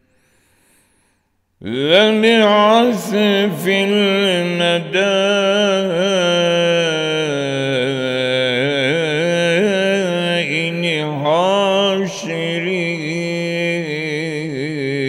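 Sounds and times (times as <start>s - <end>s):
man chanting melodically: 1.6s - 15.0s.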